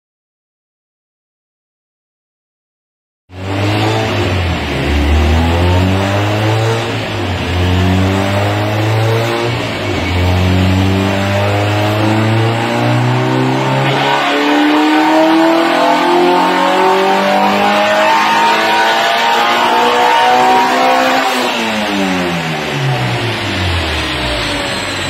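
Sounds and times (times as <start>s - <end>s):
car engine revving on dyno: 3.3s - 25.0s.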